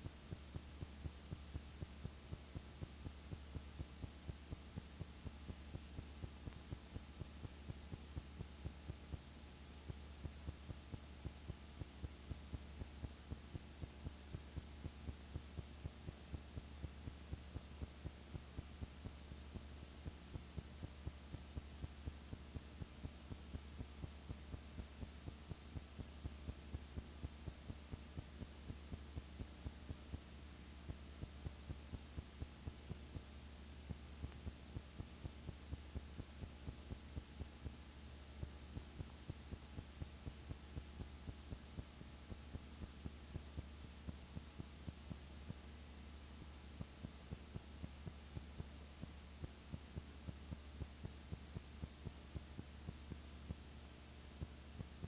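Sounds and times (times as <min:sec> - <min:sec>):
electrical hum: 0:00.0 - 0:55.0
faint ticks: 0:00.0 - 0:55.0.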